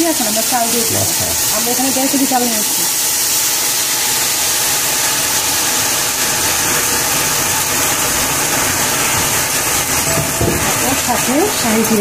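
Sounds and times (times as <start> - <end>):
sizzling in hot oil: 0.0 - 12.0.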